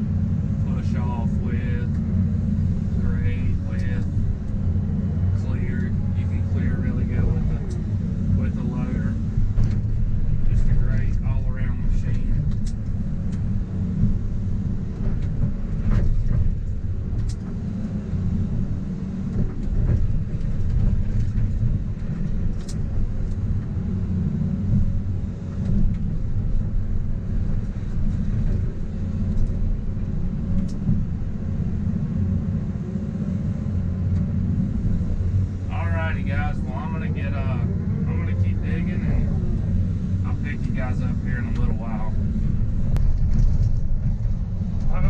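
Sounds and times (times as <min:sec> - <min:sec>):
diesel engine rumbling under load: 0:00.0 - 0:45.0.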